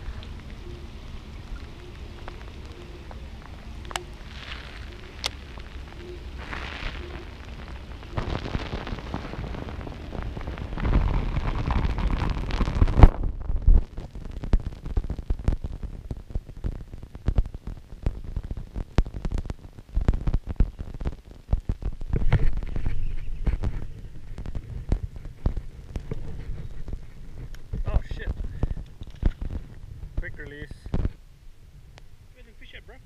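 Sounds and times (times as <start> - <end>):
heavy rain hissing: 0.0 - 31.5.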